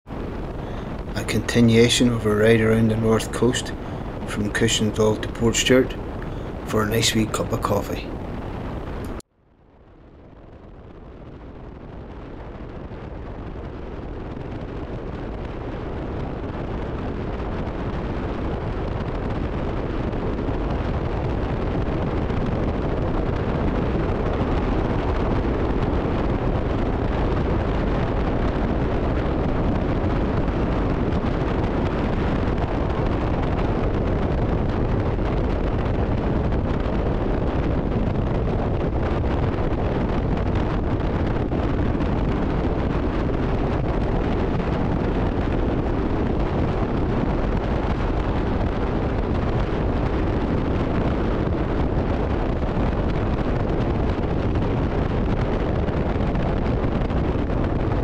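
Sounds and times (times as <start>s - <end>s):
wind buffeting microphone: 0.0s - 9.2s, 9.8s - 58.0s.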